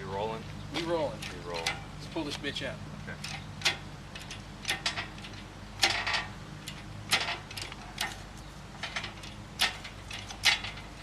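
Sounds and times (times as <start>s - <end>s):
engine hoist metal clicks and clanks: 0.7s - 11.0s.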